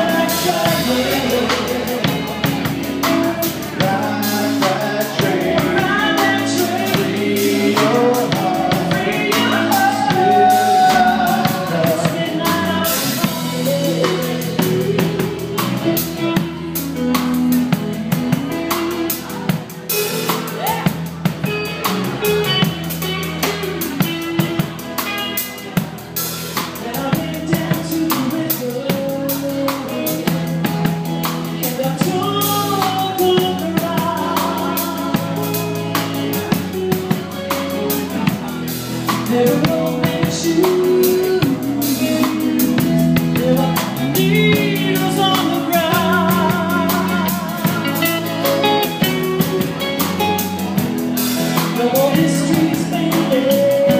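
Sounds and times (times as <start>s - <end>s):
drum kit beat: 0.0s - 53.9s
live band playing: 0.0s - 53.9s.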